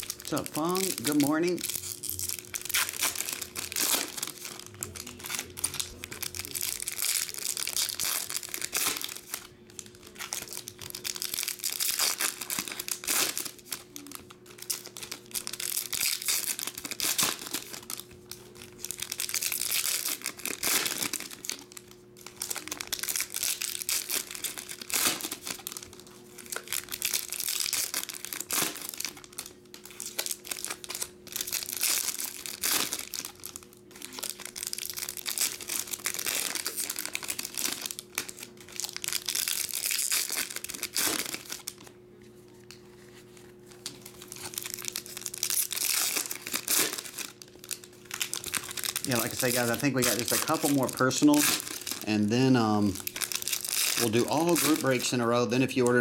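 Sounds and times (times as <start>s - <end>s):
foil wrappers crinkling and tearing: 0.0s - 56.0s.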